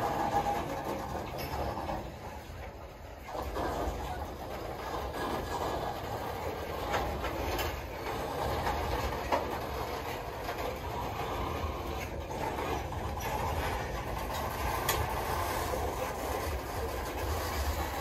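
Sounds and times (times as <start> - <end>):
freight cars rumbling on rails: 0.0 - 18.0
wheels clacking over rail joints: 0.0 - 18.0.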